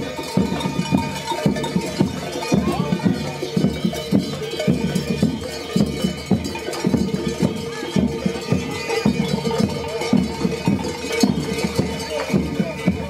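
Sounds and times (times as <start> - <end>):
music with steady drum beat: 0.0 - 13.0.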